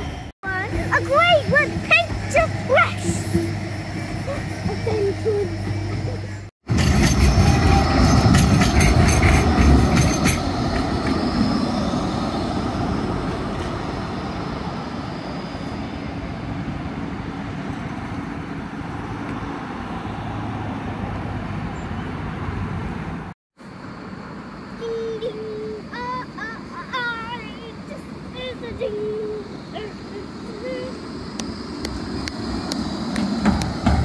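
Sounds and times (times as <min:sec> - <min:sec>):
tram passing rumble: 0:00.0 - 0:34.0.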